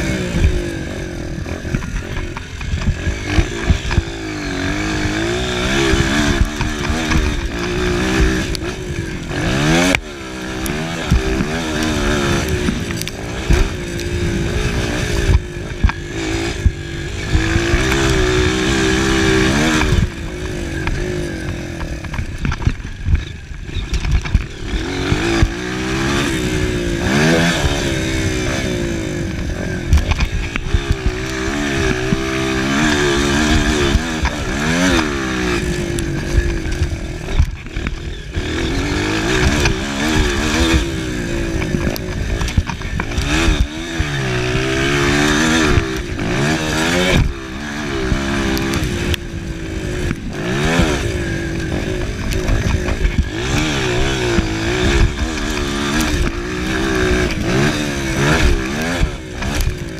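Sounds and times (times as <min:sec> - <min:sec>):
motorbike engine revving: 0:00.0 - 0:59.9
wind noise: 0:00.0 - 0:59.9.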